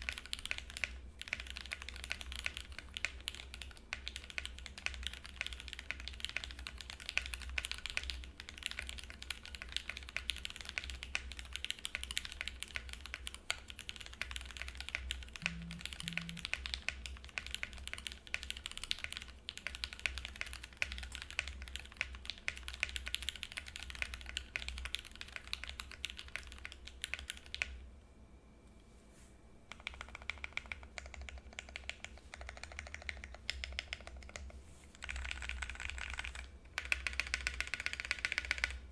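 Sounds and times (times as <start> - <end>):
mechanical keyboard typing: 0.0 - 27.8, 29.7 - 38.9.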